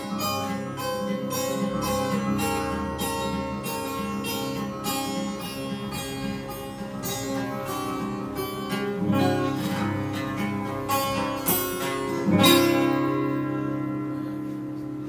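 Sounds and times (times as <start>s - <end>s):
acoustic guitar blues playing: 0.0s - 15.0s.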